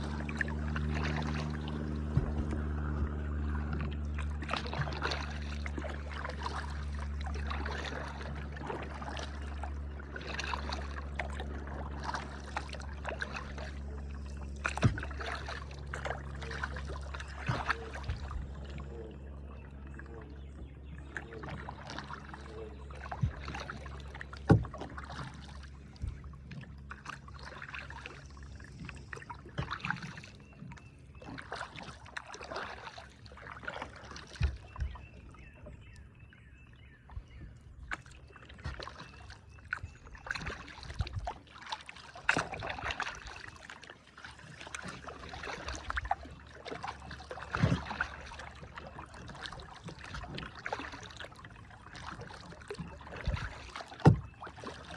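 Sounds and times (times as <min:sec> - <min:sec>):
paddle splashing in water: 0:00.0 - 0:54.9.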